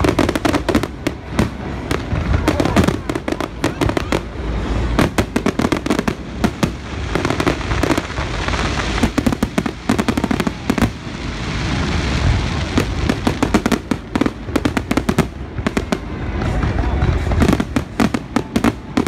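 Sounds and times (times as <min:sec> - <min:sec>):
firework crackling hiss: 0:00.0 - 0:19.0.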